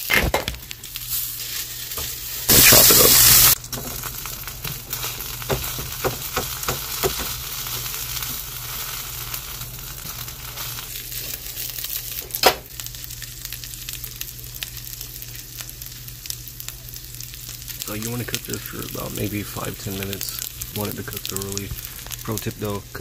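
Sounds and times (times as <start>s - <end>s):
sausage sizzling in a skillet: 0.6s - 23.0s.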